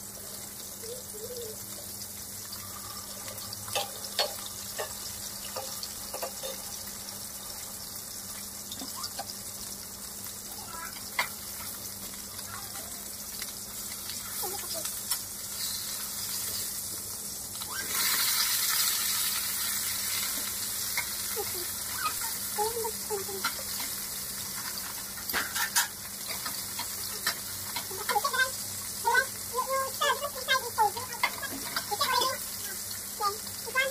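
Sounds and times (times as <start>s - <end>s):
fish sizzling in hot oil: 0.0s - 33.9s.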